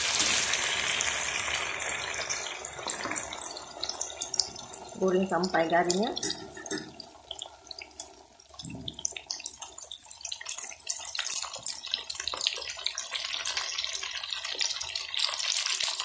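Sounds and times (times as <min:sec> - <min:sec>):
potatoes deep-frying in oil: 0:00.0 - 0:16.0.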